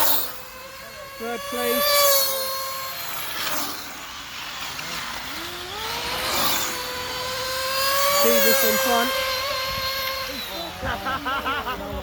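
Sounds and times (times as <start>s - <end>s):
rc car motor whine: 0.0s - 12.0s
tyre and dirt noise: 0.0s - 12.0s.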